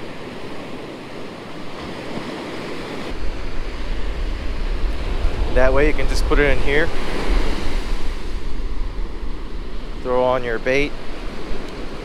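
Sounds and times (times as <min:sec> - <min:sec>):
ocean surf on sandy beach: 0:00.0 - 0:12.0
wind buffeting microphone: 0:00.0 - 0:12.0.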